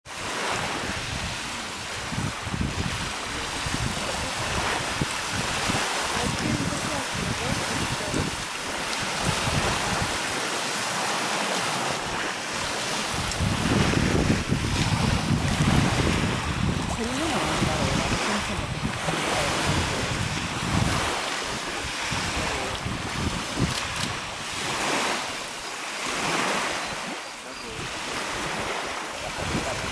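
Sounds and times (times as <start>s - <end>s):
lake water lapping: 0.1s - 29.9s
wind on microphone: 0.1s - 29.9s.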